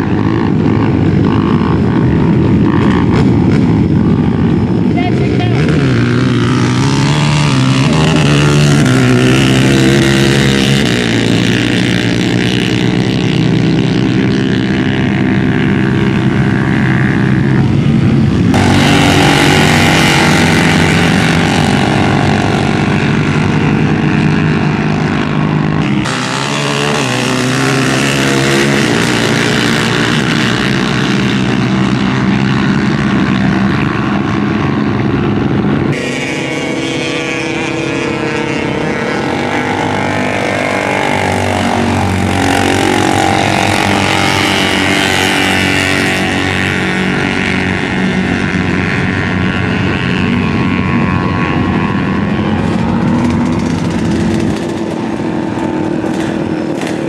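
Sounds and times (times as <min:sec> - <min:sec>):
off-road vehicle engines droning: 0:00.0 - 0:57.0.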